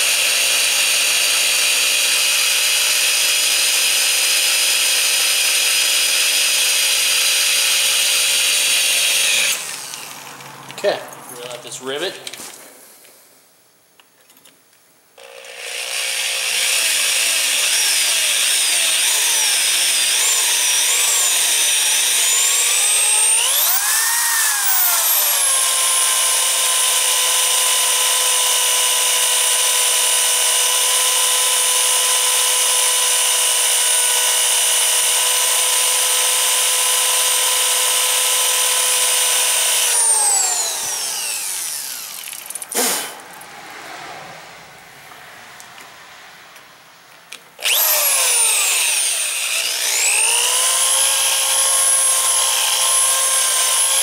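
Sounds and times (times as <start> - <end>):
electric drill whining: 0.0 - 10.5, 15.2 - 43.1, 47.6 - 54.0.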